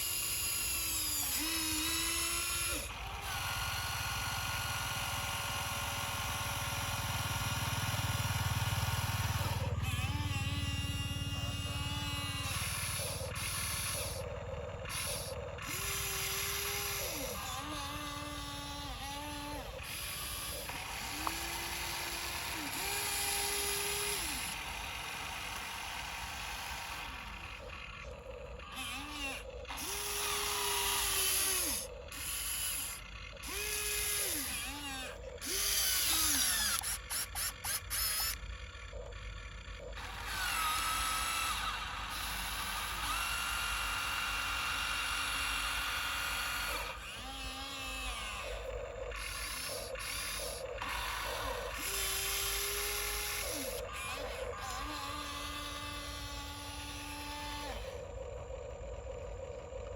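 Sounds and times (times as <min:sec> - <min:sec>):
electric motor and gearbox whining: 0:00.0 - 0:59.9.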